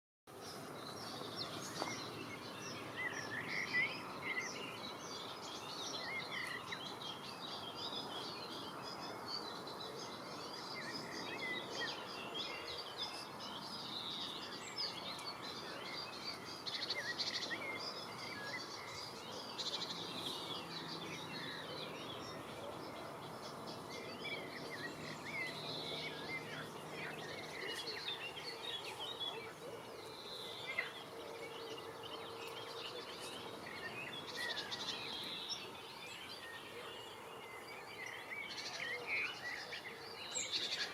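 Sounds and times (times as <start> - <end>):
small birds chirping: 0.3 - 40.9.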